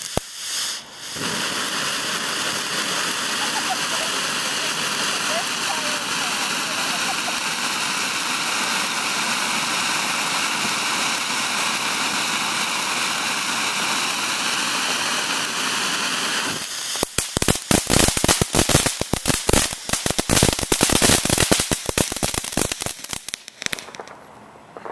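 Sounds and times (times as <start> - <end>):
firework fountain hissing and crackling: 0.0 - 24.9.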